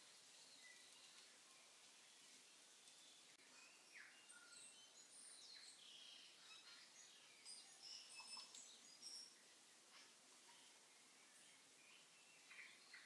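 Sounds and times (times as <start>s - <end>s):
faint high bird chirps: 0.3s - 13.0s.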